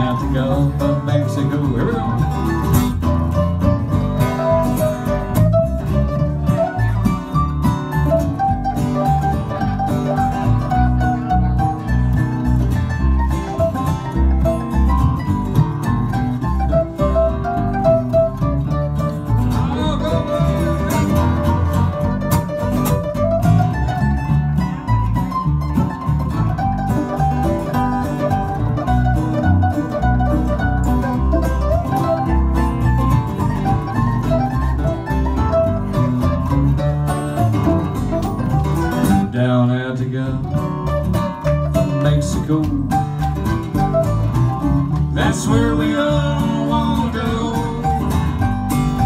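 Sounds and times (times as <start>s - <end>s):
acoustic guitar strumming: 0.0s - 49.0s
mandolin picking a melody: 0.0s - 49.0s.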